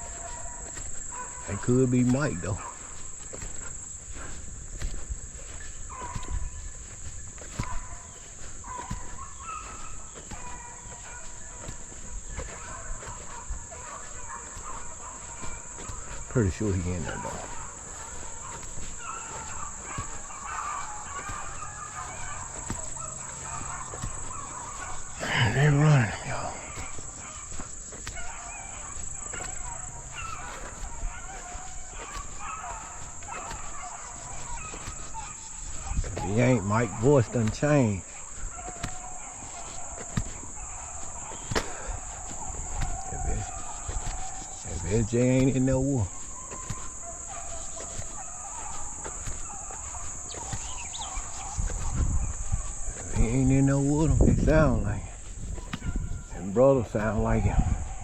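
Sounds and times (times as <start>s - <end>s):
distant hounds baying: 0.0s - 58.0s
high drone of insects: 0.0s - 58.0s.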